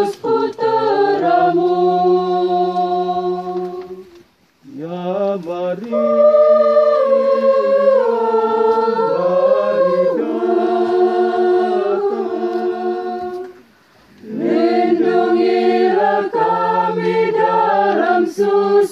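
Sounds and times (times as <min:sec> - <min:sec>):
choir singing a hymn: 0:00.0 - 0:04.2, 0:04.8 - 0:18.9.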